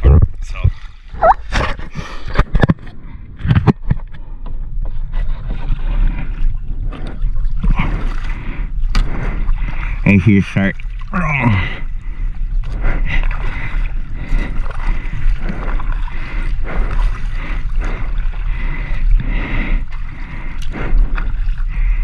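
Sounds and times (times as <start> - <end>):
steady low rumble: 0.0 - 22.0
paddle splashing in water: 3.4 - 10.0, 10.7 - 22.0.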